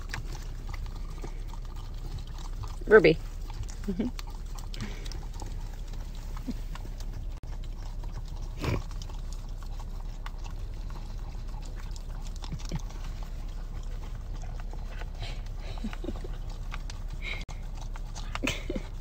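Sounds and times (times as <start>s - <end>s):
dogs licking and lapping: 0.0s - 19.0s
steady low hum: 0.0s - 19.0s.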